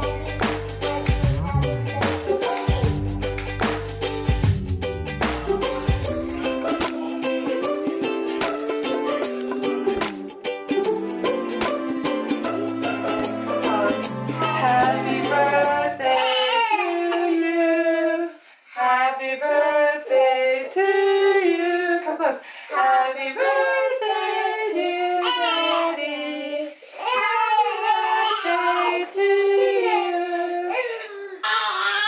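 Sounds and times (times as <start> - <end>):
person singing unaccompanied: 0.0 - 3.1, 5.4 - 26.8, 27.7 - 30.9.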